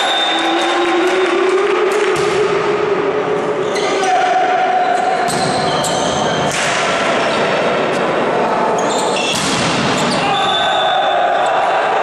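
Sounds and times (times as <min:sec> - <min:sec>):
voices in echoing hall: 0:00.0 - 0:12.0.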